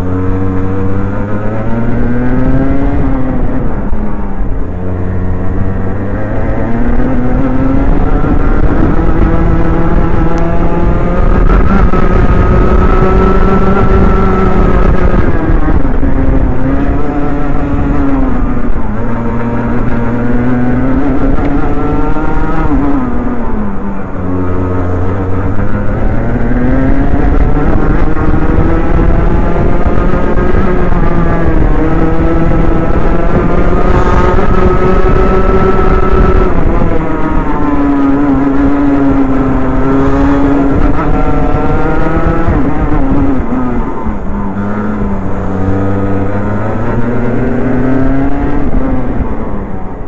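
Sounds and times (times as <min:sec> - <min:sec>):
kart engine revving: 0:00.0 - 0:50.0.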